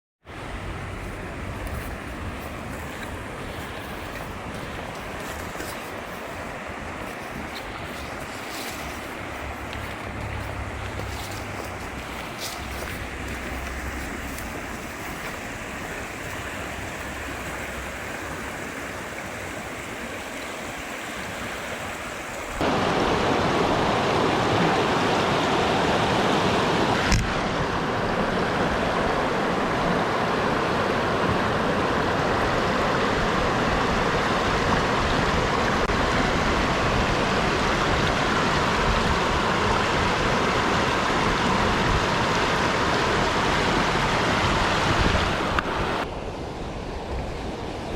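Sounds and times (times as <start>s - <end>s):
river water flowing: 0.2s - 47.9s.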